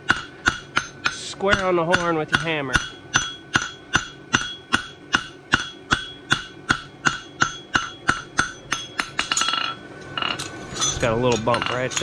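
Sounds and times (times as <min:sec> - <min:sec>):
hammer striking metal on anvil: 0:00.0 - 0:12.0.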